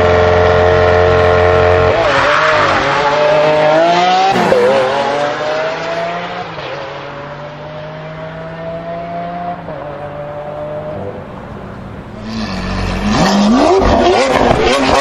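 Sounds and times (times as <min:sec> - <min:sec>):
cars accelerating hard: 0:00.0 - 0:11.3, 0:12.0 - 0:15.0.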